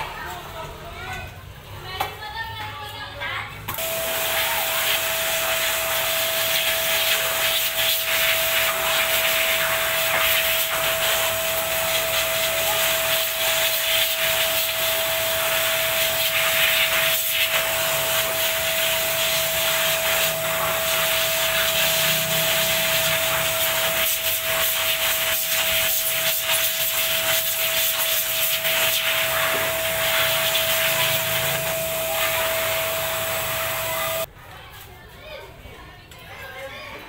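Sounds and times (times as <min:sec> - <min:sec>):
vacuum cleaner whining: 0:03.7 - 0:34.3.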